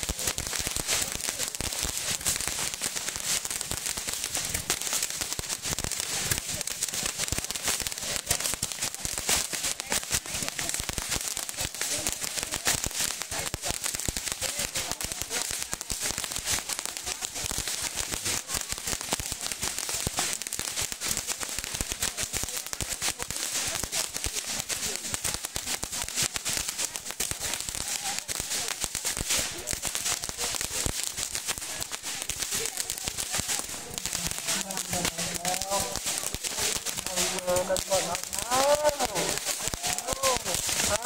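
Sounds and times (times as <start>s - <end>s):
fireworks fountains crackling hiss: 0.0s - 41.0s.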